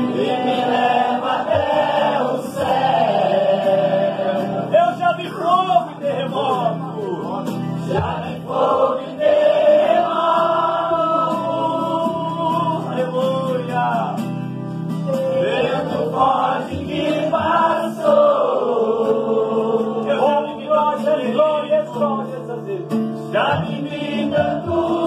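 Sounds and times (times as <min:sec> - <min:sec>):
acoustic guitar: 0:00.0 - 0:25.0.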